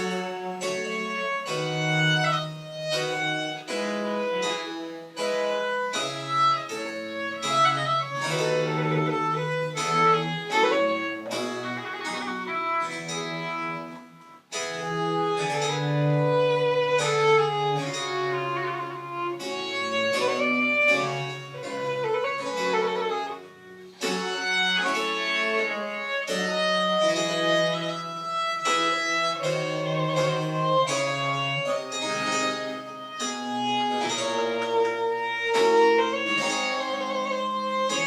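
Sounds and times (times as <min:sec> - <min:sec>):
baroque chamber music wind and strings: 0:00.0 - 0:38.0.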